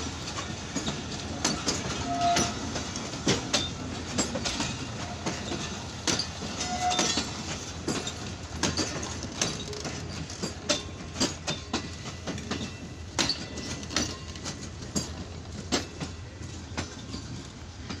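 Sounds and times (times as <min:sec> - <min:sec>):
train wheels rumbling on rail: 0:00.0 - 0:18.0
wheels clacking over rail joints: 0:00.0 - 0:18.0.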